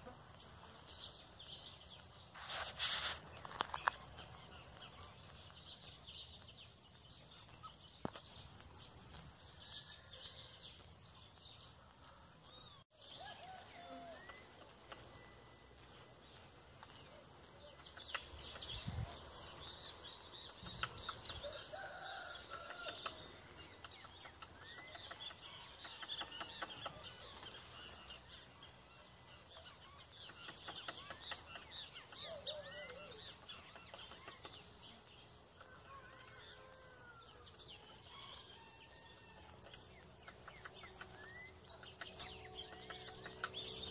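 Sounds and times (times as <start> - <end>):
small birds chirping: 0.0 - 36.4, 37.2 - 43.9.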